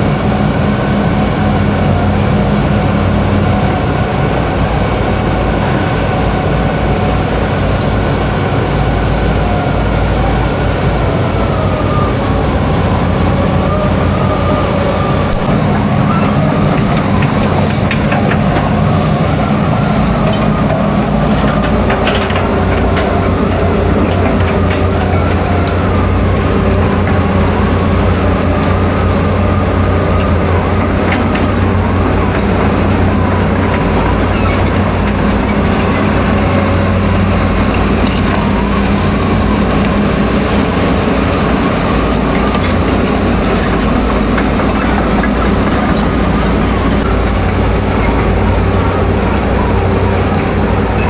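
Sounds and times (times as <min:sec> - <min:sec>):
heavy engine humming: 0:00.0 - 0:51.0.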